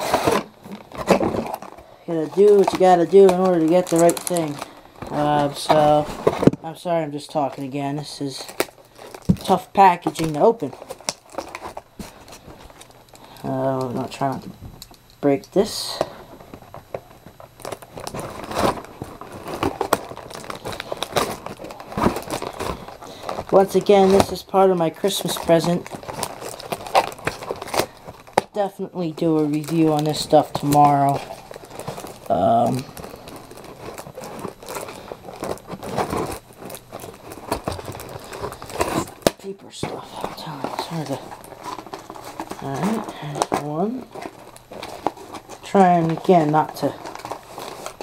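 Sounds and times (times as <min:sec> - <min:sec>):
packaging crinkling and snapping: 0:00.0 - 0:48.0.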